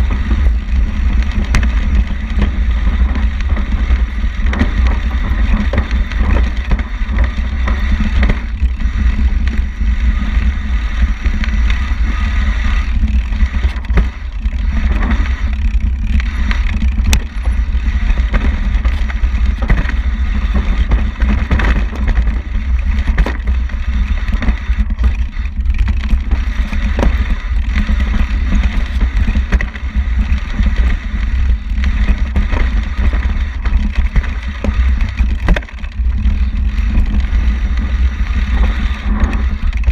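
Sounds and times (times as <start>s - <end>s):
rattling over rough dirt trail: 0.0s - 39.9s
wind buffeting microphone: 0.0s - 39.9s.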